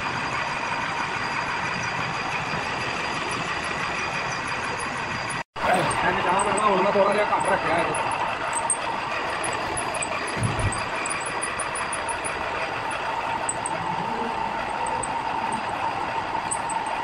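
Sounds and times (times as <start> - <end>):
drilling machine whirring: 1.0 - 17.0.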